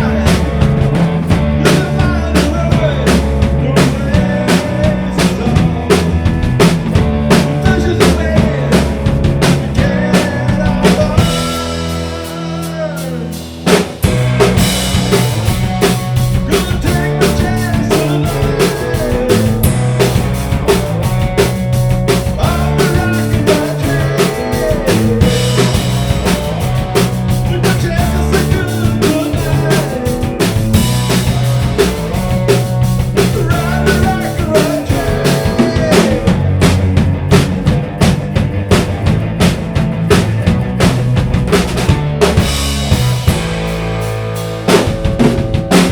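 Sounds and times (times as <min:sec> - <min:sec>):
drum-kit beat: 0:00.0 - 0:45.9
rock band music: 0:00.0 - 0:45.9.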